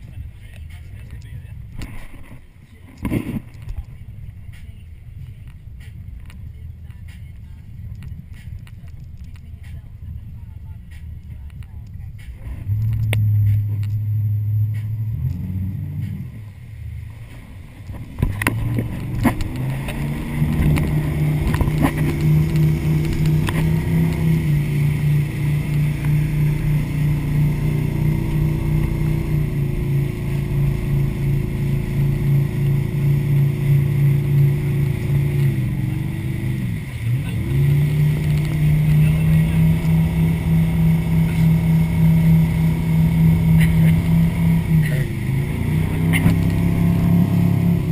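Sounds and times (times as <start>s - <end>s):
motorboat engine: 0.0s - 47.9s.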